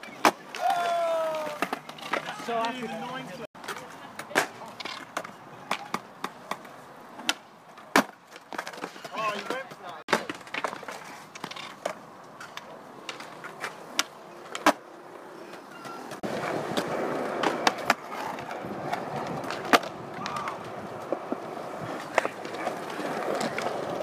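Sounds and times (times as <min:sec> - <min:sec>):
skateboard wheels rolling on concrete: 0:00.0 - 0:24.0
skateboards clacking on ground: 0:00.0 - 0:24.0.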